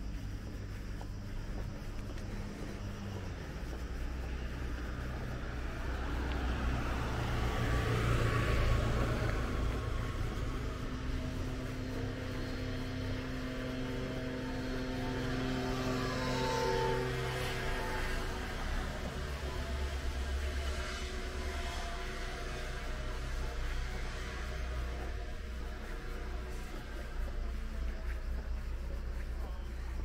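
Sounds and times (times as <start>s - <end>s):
car passing: 0.0s - 30.0s.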